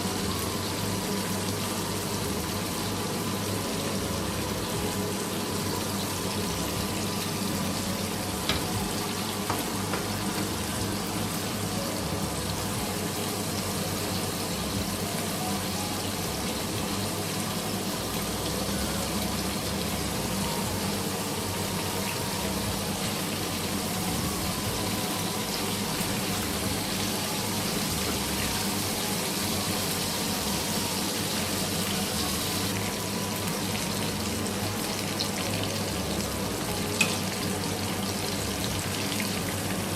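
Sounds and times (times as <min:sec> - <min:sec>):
chicken frying in hot oil: 0:00.0 - 0:39.9.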